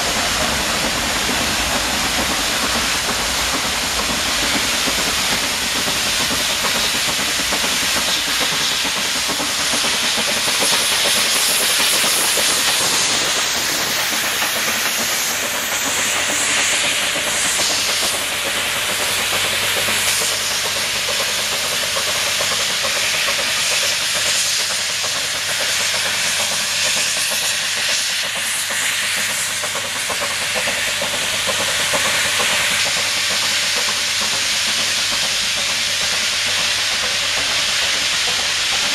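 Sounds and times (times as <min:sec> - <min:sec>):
steam locomotive hissing: 0:00.0 - 0:38.9.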